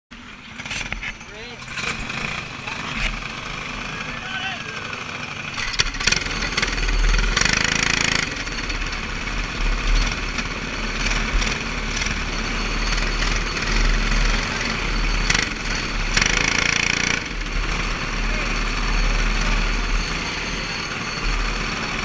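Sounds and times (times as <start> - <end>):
go-kart engine running: 0.1 - 22.0.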